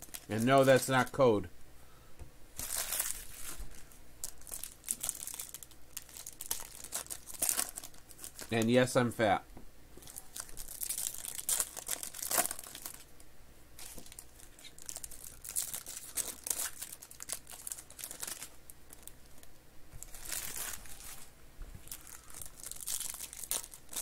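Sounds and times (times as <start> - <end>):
foil wrapper crinkling: 0.0 - 1.2, 2.6 - 8.9, 10.0 - 13.2, 13.8 - 24.0.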